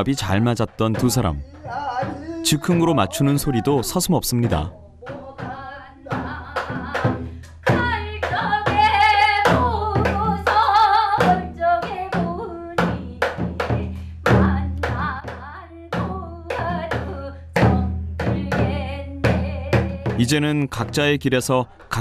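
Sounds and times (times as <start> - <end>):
folk singing with vibrato: 0.0 - 20.3
drum strokes: 0.2 - 21.0.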